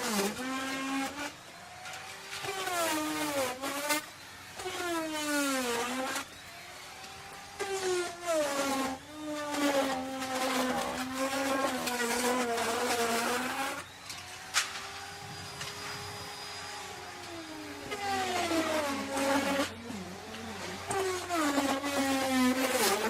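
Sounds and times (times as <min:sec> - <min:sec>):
wood router cutting wood: 0:00.0 - 0:23.0.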